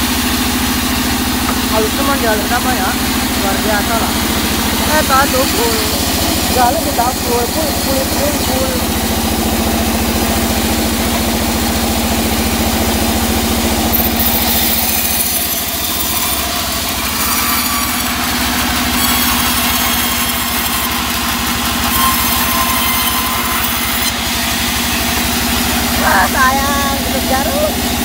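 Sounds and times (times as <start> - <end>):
band sawmill humming: 0.0 - 28.0
saw blade cutting log: 0.0 - 28.0.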